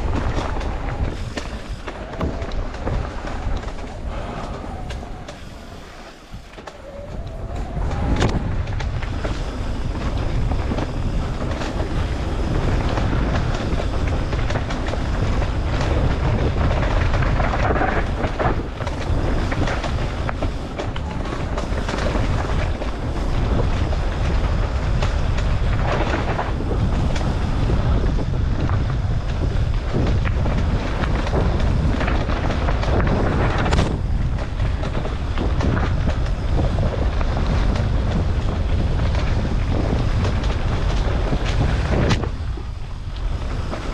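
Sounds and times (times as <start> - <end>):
bike tyres rumbling on dirt: 0.0 - 43.9
wind buffeting microphone: 0.0 - 43.9.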